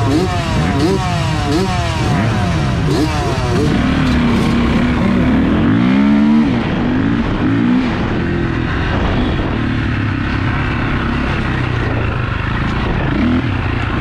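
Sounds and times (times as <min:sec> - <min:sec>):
dirt bike engine accelerating: 0:00.0 - 0:14.0.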